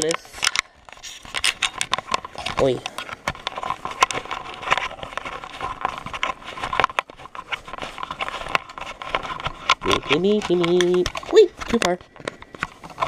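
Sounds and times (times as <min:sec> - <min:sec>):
camera handling clicks and knocks: 0:00.0 - 0:13.0.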